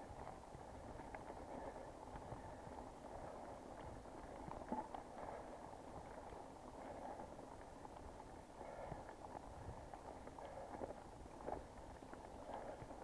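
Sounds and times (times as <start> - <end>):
bike tyres rolling on trail: 0.0 - 13.0.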